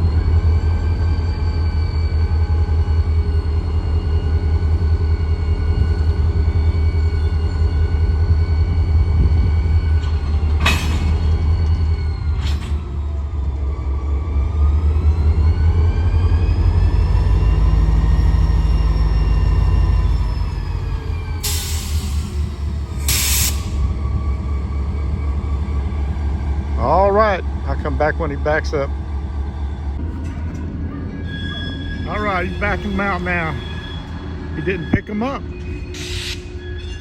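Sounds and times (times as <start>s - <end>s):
diesel locomotive engine rumble: 0.0s - 37.0s.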